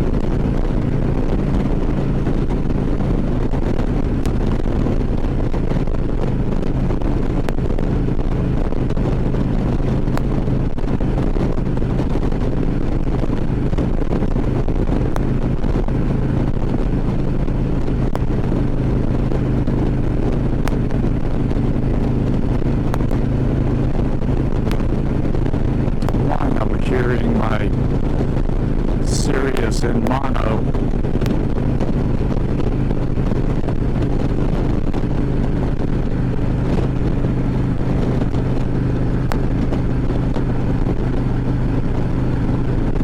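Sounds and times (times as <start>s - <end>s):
motorcycle engine cruising: 0.0s - 43.0s
wind buffeting microphone: 0.0s - 43.0s.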